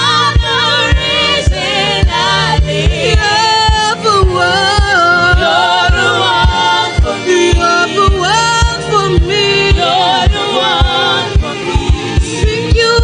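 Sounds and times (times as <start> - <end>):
kick drum beat: 0.0 - 13.0
voices singing gospel: 0.0 - 13.0.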